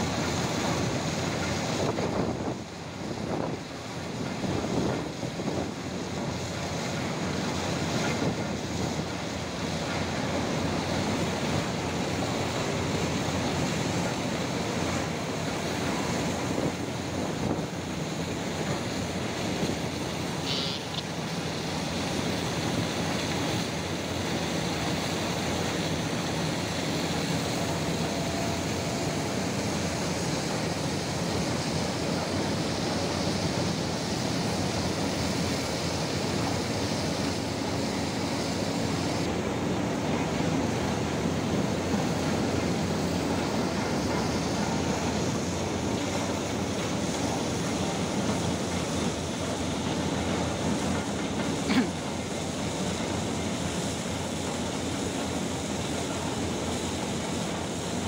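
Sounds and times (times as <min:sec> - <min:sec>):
coal pouring from a chute: 0:00.0 - 0:58.0.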